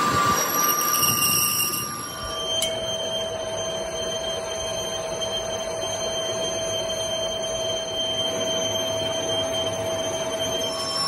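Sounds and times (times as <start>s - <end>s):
metal lathe running with whine: 0.0s - 11.0s.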